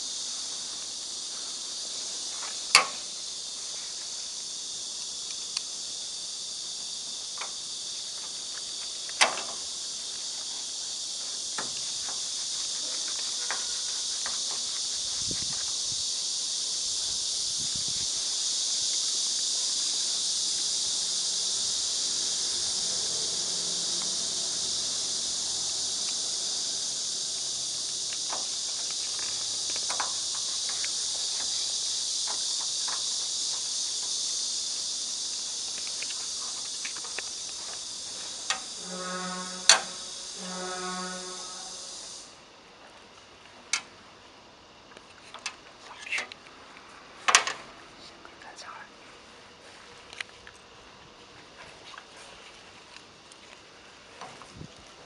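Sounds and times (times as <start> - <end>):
high-pitched hiss: 0.0 - 55.0.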